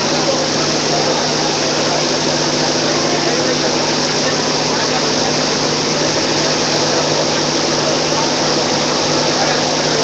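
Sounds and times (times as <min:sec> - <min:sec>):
dense street crowd din: 0:00.0 - 0:10.0
low engine-like hum: 0:00.0 - 0:10.0.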